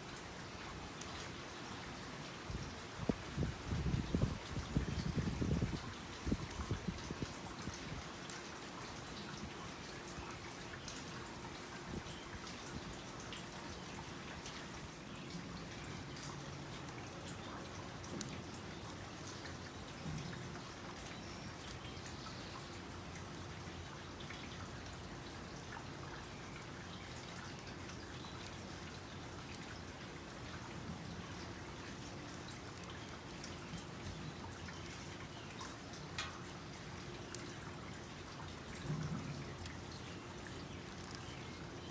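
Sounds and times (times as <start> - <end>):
faint steady hiss: 0.0 - 41.9.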